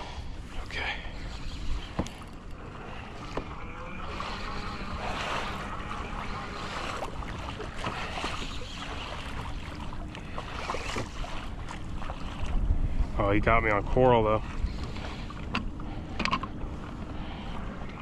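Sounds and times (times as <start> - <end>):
wind buffeting microphone: 0.0 - 18.0
water splashing against kayak hull: 0.1 - 18.0.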